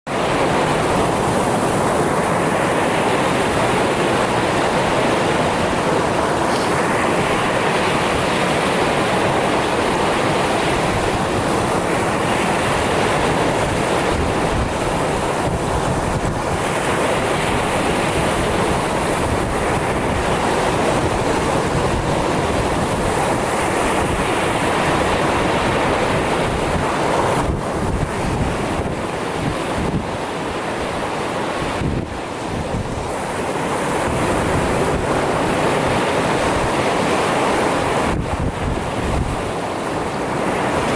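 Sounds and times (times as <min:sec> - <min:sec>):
waves breaking on stony shore: 0:00.1 - 0:40.9.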